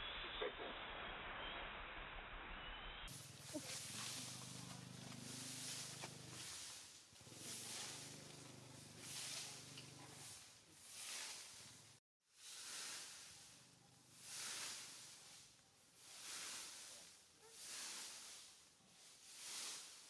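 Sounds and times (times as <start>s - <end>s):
faint high hiss: 0.0s - 20.0s.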